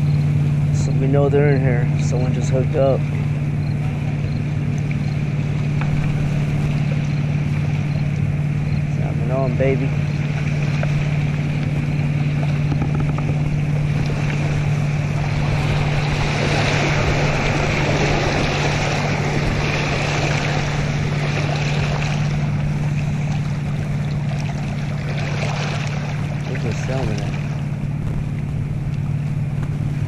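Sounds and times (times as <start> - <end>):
boat wake splashing on rocks: 0.0 - 30.0
motorboat engine humming: 0.0 - 30.0.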